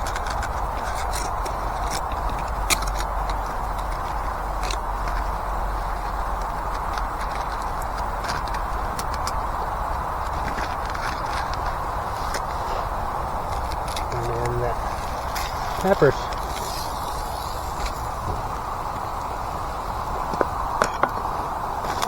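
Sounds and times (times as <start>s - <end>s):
campfire crackling and hissing: 0.0s - 22.0s.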